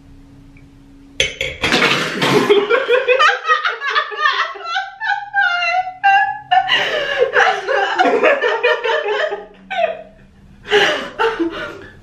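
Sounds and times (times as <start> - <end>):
people laughing: 2.2 - 12.0.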